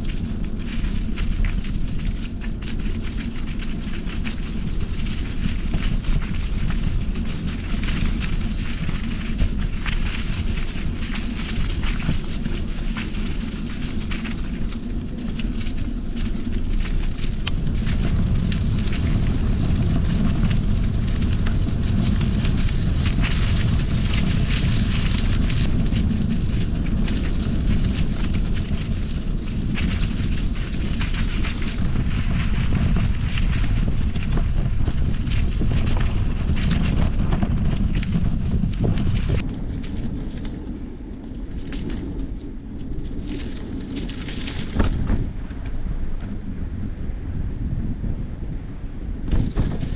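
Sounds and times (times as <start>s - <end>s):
bike tyres crackling on gravel: 0.0s - 49.9s
wind rumble on microphone: 0.0s - 49.9s.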